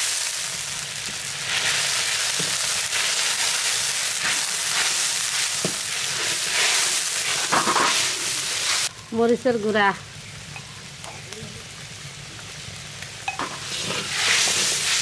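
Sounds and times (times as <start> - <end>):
paste sizzling in oil: 0.0 - 15.0.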